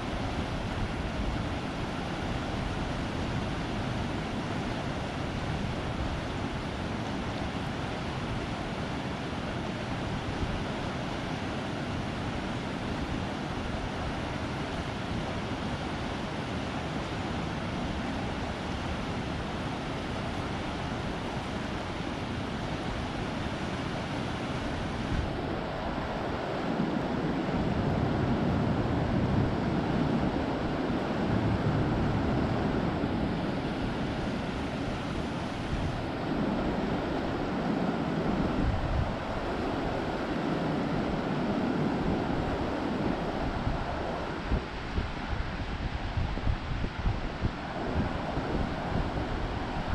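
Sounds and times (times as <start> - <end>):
river rushing: 0.0 - 49.9.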